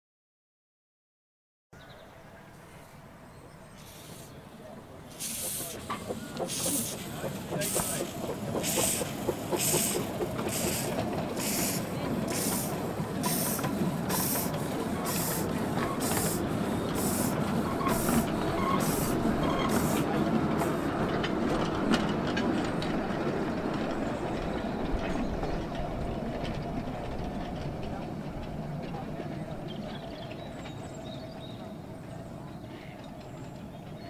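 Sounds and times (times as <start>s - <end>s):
steam locomotive chuffing: 3.8s - 34.0s
wheels rumbling on track: 4.3s - 34.0s.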